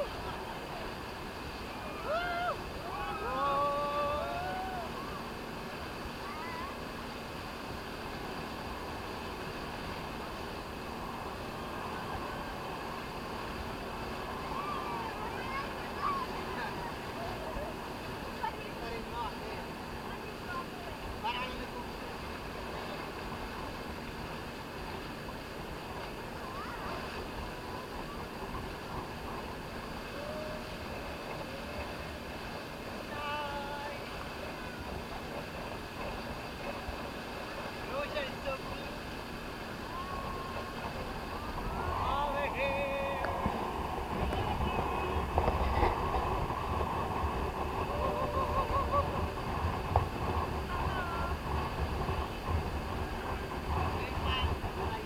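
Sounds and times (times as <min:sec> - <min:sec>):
boat running on water: 0:00.0 - 0:55.0
faint distant voices: 0:00.0 - 0:55.0
motorboat engine rumble: 0:00.0 - 0:55.0
wind: 0:00.0 - 0:55.0.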